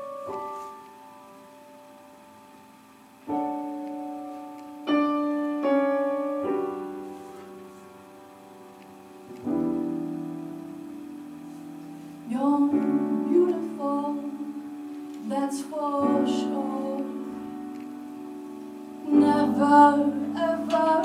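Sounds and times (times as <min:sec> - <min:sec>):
piano chords ringing: 0:00.0 - 0:21.0.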